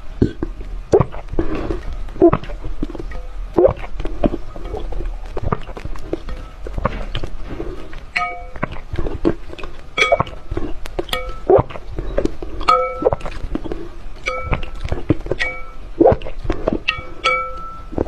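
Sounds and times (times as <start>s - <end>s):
wet chewing and slurping: 0.0s - 18.0s.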